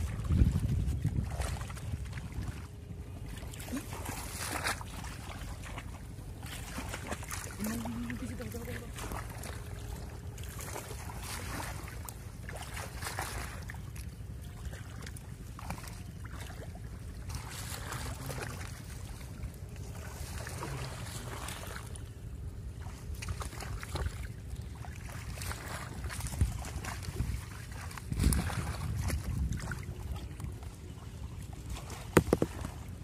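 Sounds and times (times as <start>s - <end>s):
wind rumbling on microphone: 0.0s - 18.3s, 22.7s - 33.0s
hands sloshing in muddy water: 0.0s - 22.0s, 22.8s - 33.0s.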